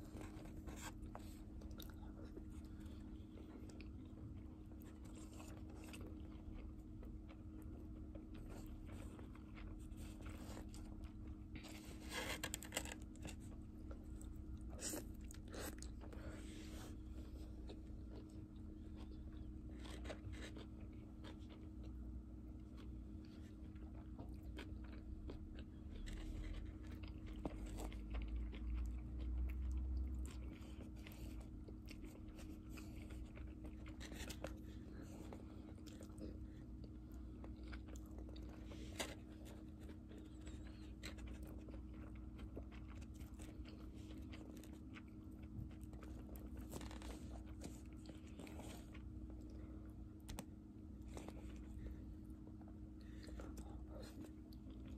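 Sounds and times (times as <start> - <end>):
chewing food: 0.0 - 54.9.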